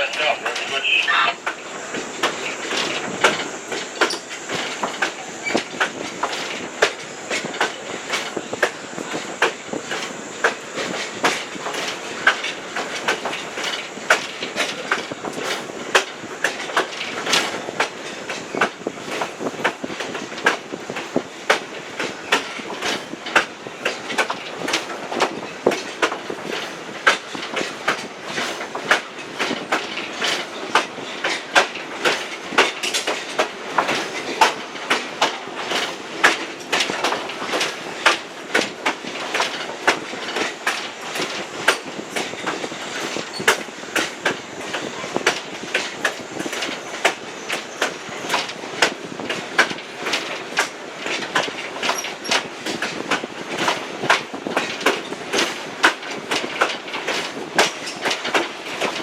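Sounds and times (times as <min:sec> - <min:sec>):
train coach rumble and rattle: 0:00.0 - 0:59.0
wheel clicks over rail joints: 0:00.0 - 0:59.0.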